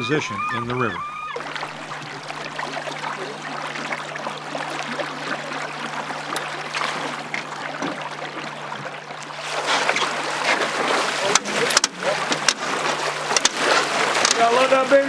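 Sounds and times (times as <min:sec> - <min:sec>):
river water rushing around boat: 0:01.4 - 0:15.0.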